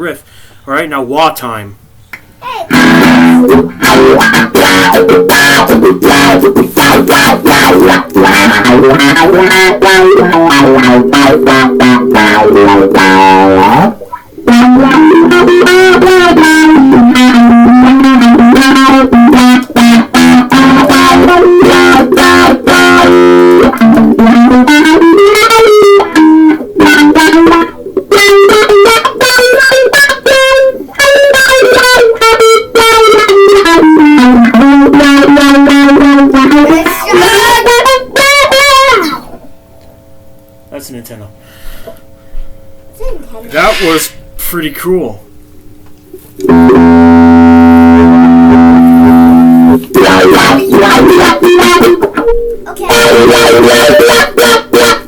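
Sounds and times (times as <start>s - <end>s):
electric guitar through wah pedal: 2.7s - 40.7s, 45.3s - 55.0s.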